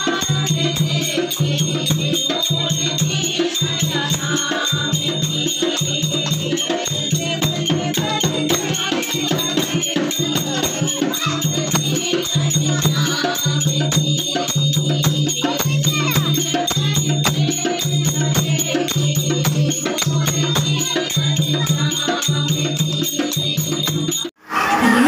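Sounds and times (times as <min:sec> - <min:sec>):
hand drum beat: 0:00.0 - 0:24.3
rattling hand percussion: 0:00.0 - 0:24.4
women singing devotional song: 0:00.0 - 0:25.0.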